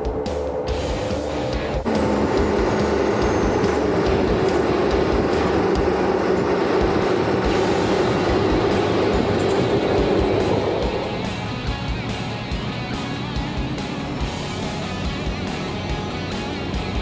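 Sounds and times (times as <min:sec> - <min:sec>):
music with low beat: 0:00.0 - 0:17.0
vehicle rumbling: 0:00.0 - 0:17.0.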